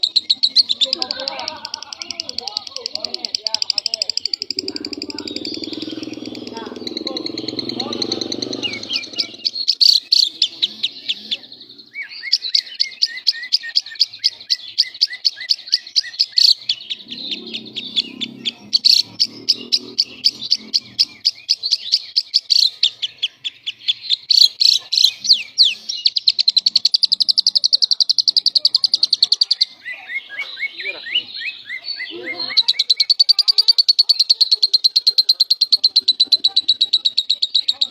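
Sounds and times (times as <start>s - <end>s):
lovebird shrill chirping: 0.0s - 37.9s.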